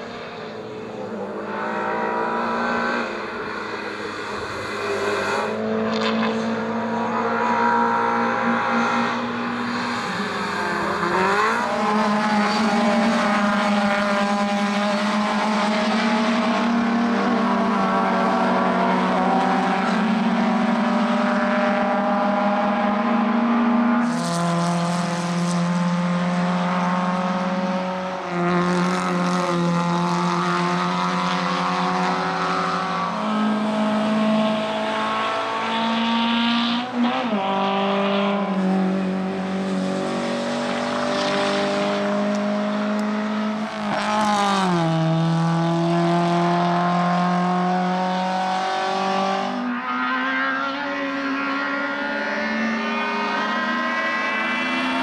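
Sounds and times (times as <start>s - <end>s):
race car engines accelerating: 0.0s - 55.0s.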